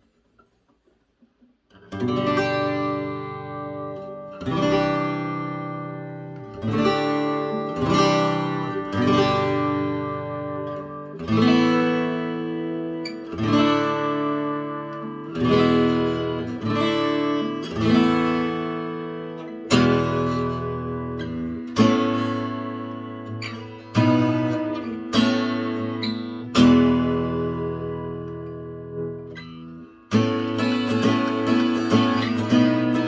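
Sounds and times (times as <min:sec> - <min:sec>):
acoustic guitar strummed chords: 0:01.8 - 0:33.0.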